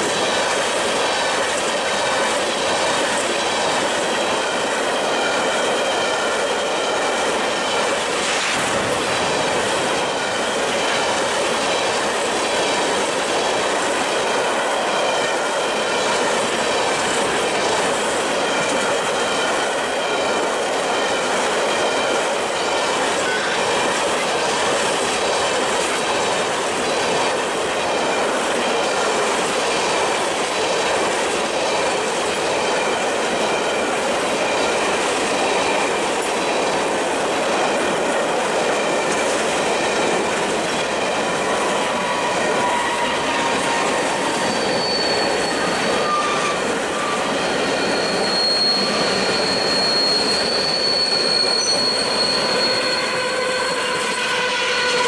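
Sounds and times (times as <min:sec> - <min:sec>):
high wheel squeal: 0:00.0 - 0:13.2, 0:14.1 - 0:36.9, 0:37.8 - 0:55.0
train wheels clattering on track: 0:00.0 - 0:55.0.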